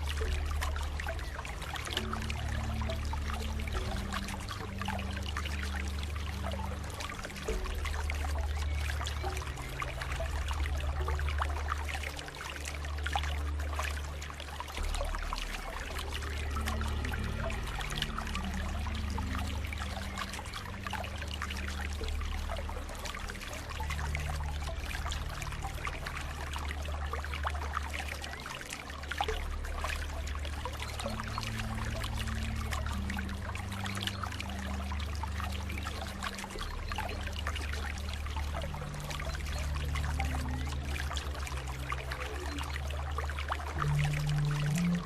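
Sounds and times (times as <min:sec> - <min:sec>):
running water splashing: 0:00.0 - 0:45.0
soft background music: 0:00.0 - 0:45.0.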